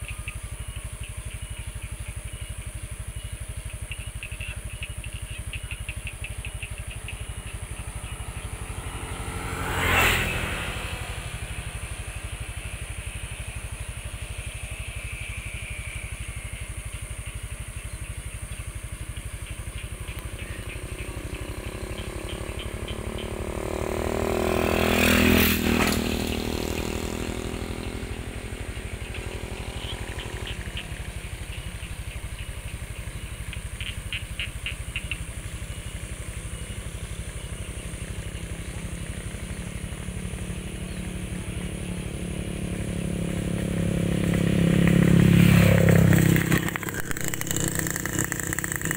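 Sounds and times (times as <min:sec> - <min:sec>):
frogs calling in clicking trills: 0:00.0 - 0:08.2, 0:12.6 - 0:23.6, 0:28.7 - 0:48.9
motor vehicles passing: 0:00.0 - 0:48.9.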